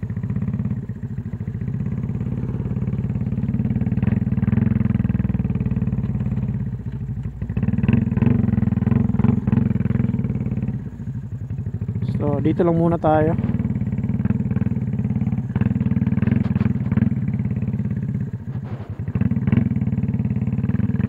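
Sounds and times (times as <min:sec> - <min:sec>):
motorcycle engine under throttle: 0:00.0 - 0:21.0
rattles from bumps: 0:00.0 - 0:21.0.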